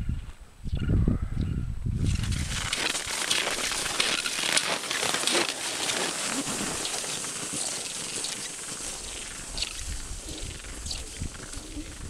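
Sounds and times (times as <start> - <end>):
skis crunching over dry snow: 2.1 - 12.0.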